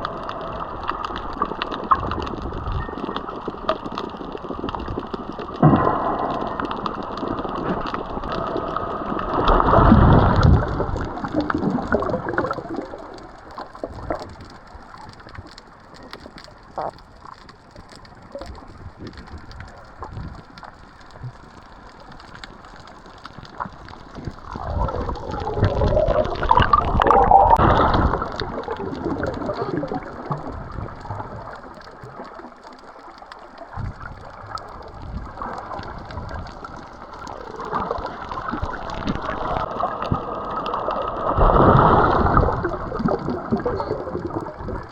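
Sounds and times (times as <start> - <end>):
muffled underwater sloshing: 0.0 - 44.9
splashing and bubbling: 0.0 - 44.9.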